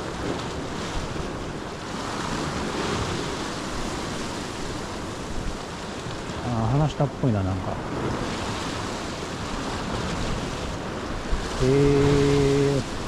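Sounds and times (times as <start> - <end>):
waves washing against rocks: 0.0 - 13.0.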